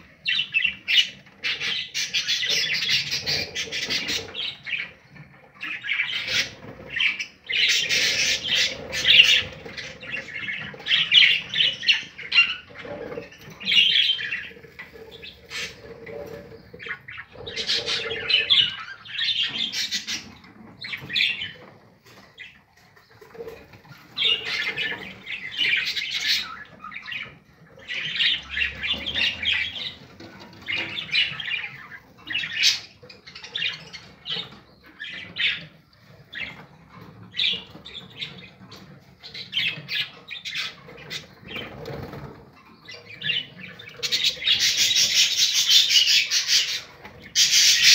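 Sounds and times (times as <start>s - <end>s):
budgerigars squawking: 0.2s - 4.9s, 5.7s - 21.6s, 23.9s - 42.3s, 42.9s - 47.9s.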